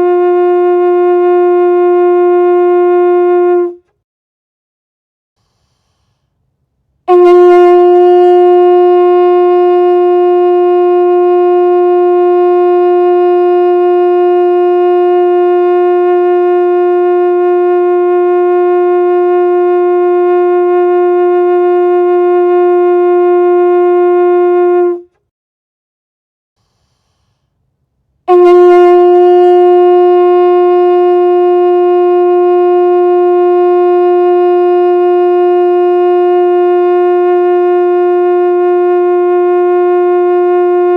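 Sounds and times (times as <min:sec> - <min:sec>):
conch shell horn note: 0:00.0 - 0:04.0, 0:07.0 - 0:25.2, 0:28.2 - 0:40.9.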